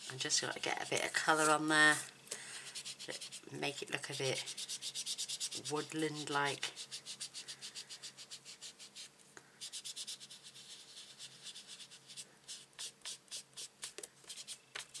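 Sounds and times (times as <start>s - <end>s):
ink dauber scratching on cardstock: 0.9s - 1.7s, 2.7s - 15.0s.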